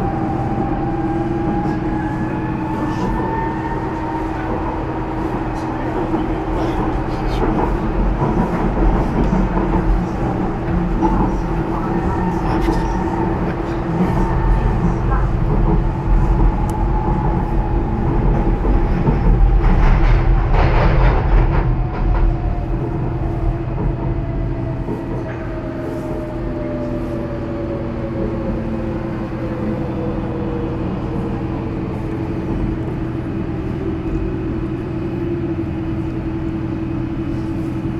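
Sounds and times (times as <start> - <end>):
train rumble and rail noise: 0.0 - 37.9.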